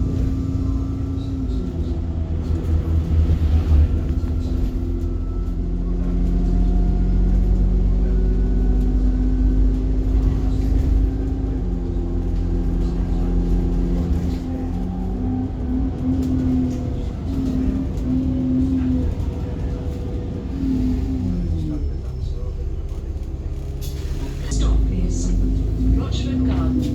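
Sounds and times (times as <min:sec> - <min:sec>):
bus engine rumble: 0:00.0 - 0:26.9
drivetrain whine: 0:00.0 - 0:26.9.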